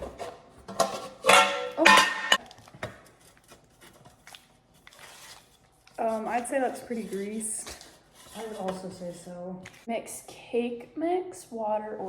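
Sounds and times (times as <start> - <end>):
faint kitchen sounds: 0.0 - 12.0.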